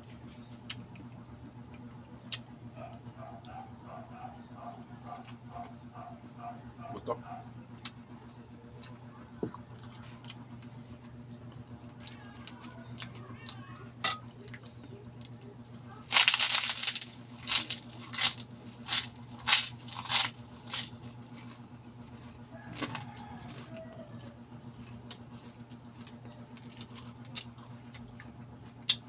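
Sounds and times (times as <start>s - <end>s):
low steady hum: 0.0s - 29.0s
crunching pork cracklings: 0.2s - 29.0s.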